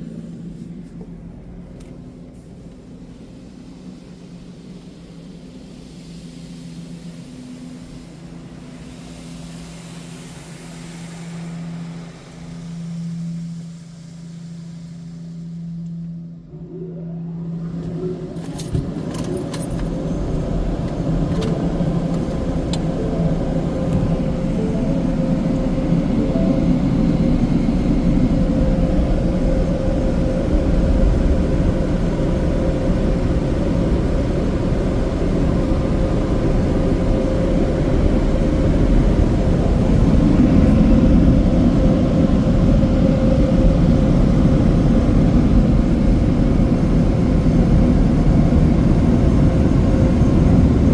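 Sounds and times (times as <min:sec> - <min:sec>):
car wash rushing noise: 0:00.0 - 0:16.6, 0:17.3 - 0:50.9
machine hum: 0:00.0 - 0:50.9.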